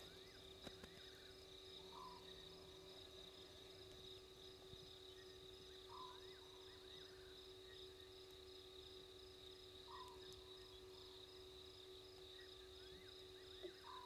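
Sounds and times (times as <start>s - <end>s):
crickets trilling: 0.0s - 14.0s
steady low hum: 0.0s - 14.0s.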